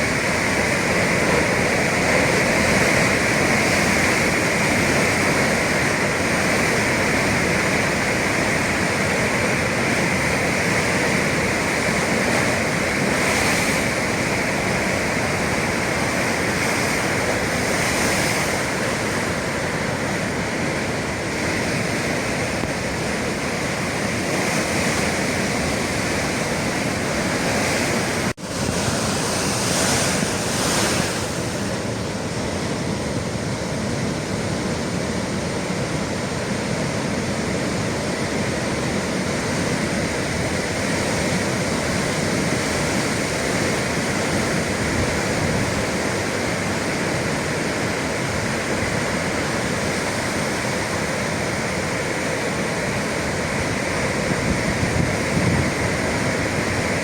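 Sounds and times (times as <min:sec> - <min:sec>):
sea waves breaking on shore: 0:00.0 - 0:57.0
wind on microphone: 0:00.0 - 0:57.0.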